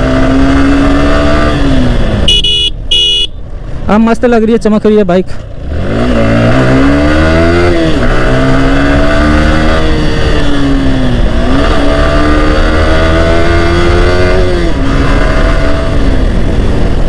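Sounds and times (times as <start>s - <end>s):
motorcycle engine revving: 0.0s - 3.3s, 5.5s - 17.0s.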